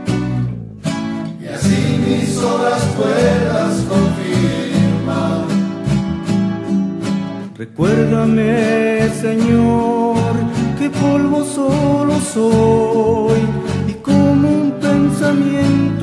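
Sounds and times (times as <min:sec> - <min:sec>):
acoustic guitars plucking and strumming: 0:00.0 - 0:16.0.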